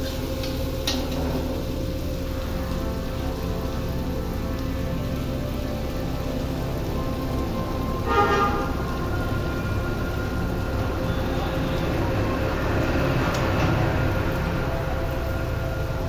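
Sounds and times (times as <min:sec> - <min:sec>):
chickpeas sizzling in a pan: 0:00.0 - 0:16.0
faint background music: 0:00.0 - 0:16.0
low rumble: 0:00.0 - 0:16.0.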